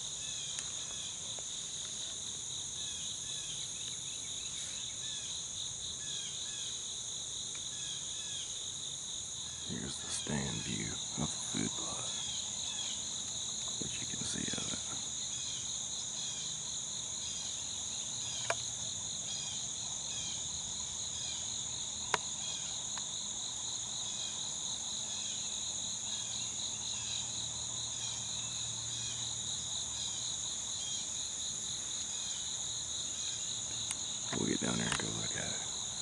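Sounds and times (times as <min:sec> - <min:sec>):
high constant insect trill: 0:00.0 - 0:36.0
low pulsing insect call: 0:00.0 - 0:36.0.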